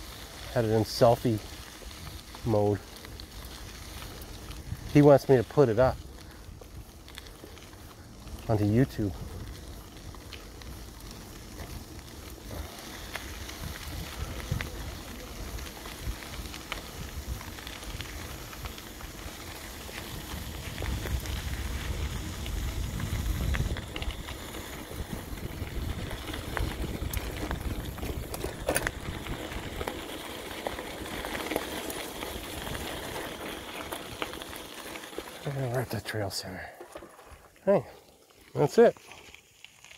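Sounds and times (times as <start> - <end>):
bicycle tyres on gravel: 0.0 - 39.9.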